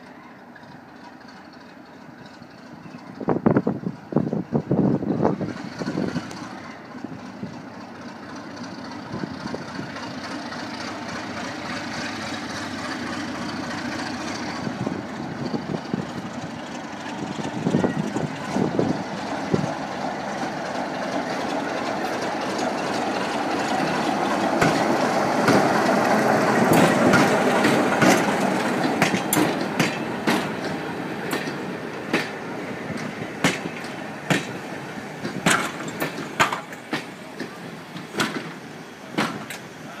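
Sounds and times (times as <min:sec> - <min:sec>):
diesel locomotive engine passing: 0:00.0 - 0:40.0
train wheels clacking over rail joints: 0:00.4 - 0:40.0.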